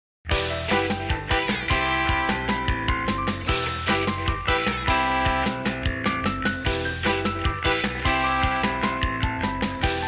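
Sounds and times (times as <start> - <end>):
background music with quick beat: 0.3 - 10.0.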